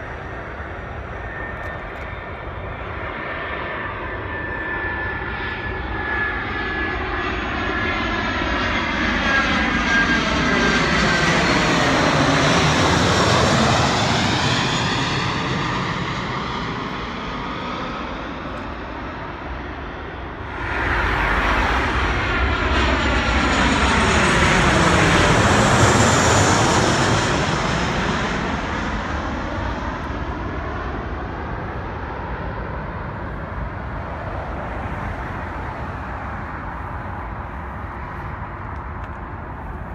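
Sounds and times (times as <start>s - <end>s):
high jet whine: 0.0s - 39.8s
jet airliners passing: 0.0s - 39.9s.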